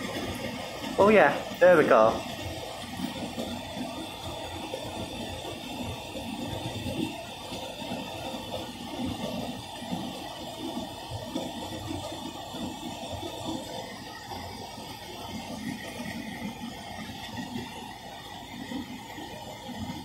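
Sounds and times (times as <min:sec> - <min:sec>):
tumble dryer motor hum: 0:00.0 - 0:20.0.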